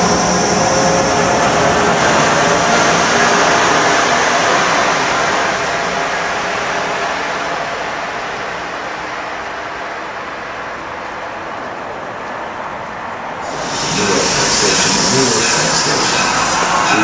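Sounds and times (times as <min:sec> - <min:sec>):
passenger coaches rolling on rails: 0:00.0 - 0:17.0
train rushing past: 0:00.0 - 0:17.0.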